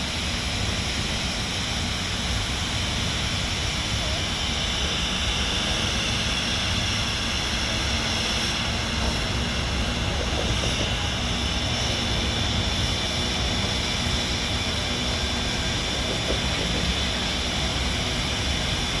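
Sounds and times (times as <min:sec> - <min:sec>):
steam locomotive venting steam: 0:00.0 - 0:19.0.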